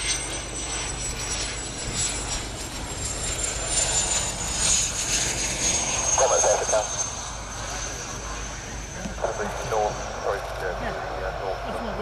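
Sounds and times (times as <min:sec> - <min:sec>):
jet whine: 0:00.0 - 0:12.0.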